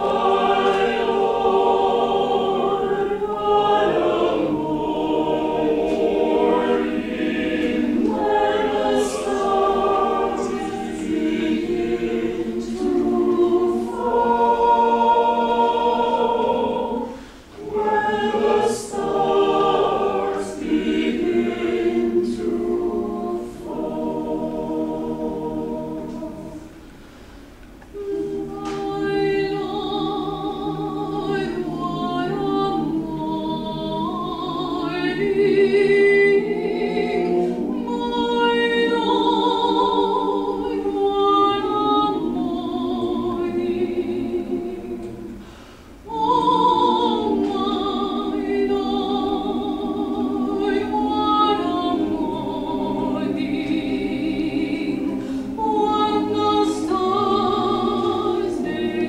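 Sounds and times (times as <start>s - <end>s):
male choir singing: 0.0s - 26.8s, 28.0s - 59.0s
soprano singing: 0.0s - 26.8s, 27.8s - 59.0s.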